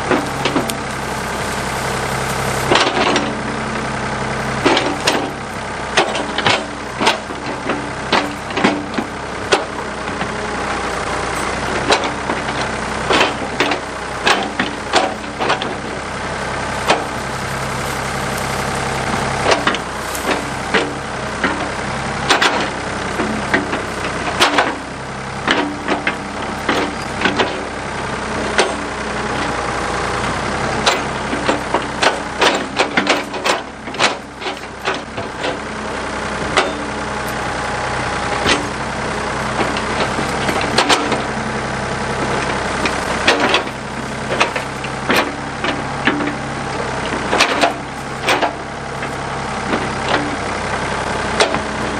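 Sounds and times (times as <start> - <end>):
metal clanks and knocks: 0.0 - 3.4, 4.5 - 16.0, 16.8 - 27.8, 28.4 - 51.8
backhoe engine running: 0.0 - 51.9.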